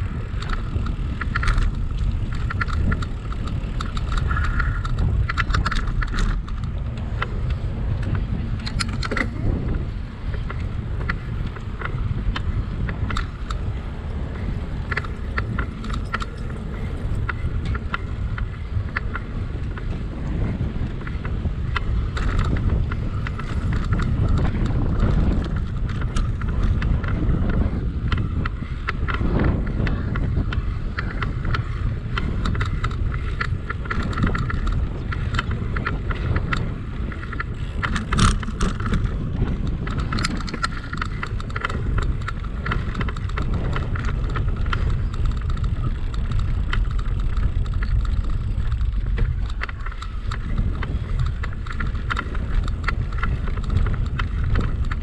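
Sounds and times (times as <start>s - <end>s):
bicycle rolling rumble: 0.0s - 55.0s
light clicks and rattles: 0.0s - 55.0s
wind buffeting microphone: 0.0s - 55.0s.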